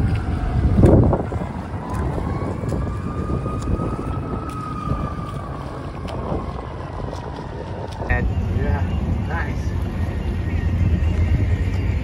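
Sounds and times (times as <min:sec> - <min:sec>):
boat engine rumble: 0:00.0 - 0:12.0
distant siren wailing: 0:00.0 - 0:12.0
wind buffeting microphone: 0:00.0 - 0:12.0.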